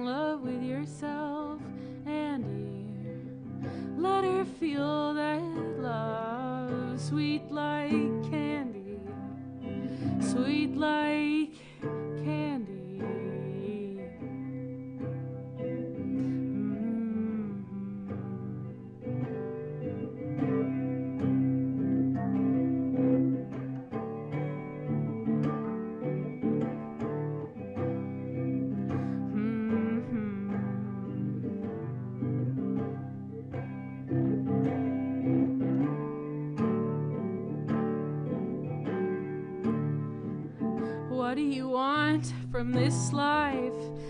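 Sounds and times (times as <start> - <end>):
plucked string instrument chords: 0.0 - 44.0.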